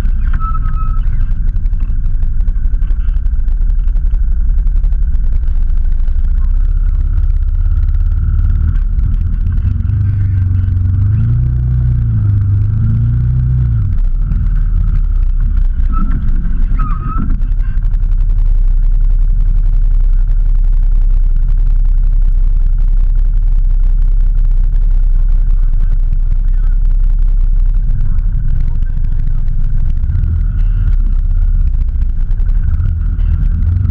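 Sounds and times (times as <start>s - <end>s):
off-road engine revving: 0.0s - 33.9s.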